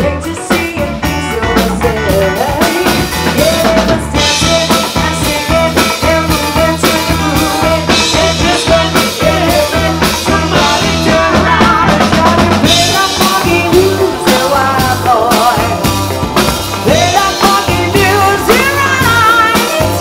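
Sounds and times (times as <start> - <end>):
woman singing into microphone: 0.0 - 15.9, 16.8 - 20.0
drum kit beat: 0.0 - 20.0
electric bass: 0.0 - 20.0.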